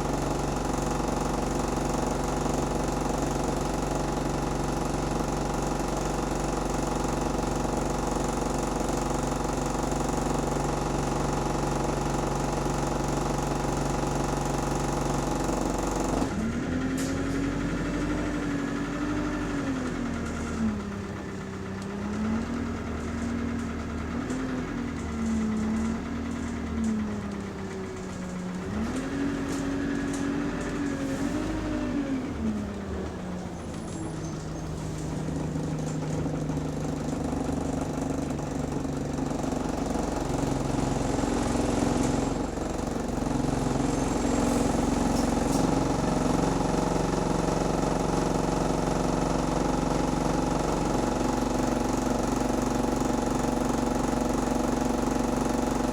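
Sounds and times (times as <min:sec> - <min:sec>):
bus engine running: 0:00.0 - 0:55.9.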